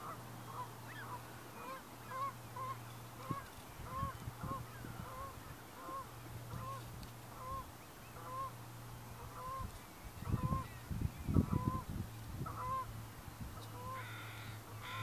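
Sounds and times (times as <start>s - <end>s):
distant waterfowl honking: 0.0s - 10.7s, 11.4s - 13.0s, 13.6s - 15.0s.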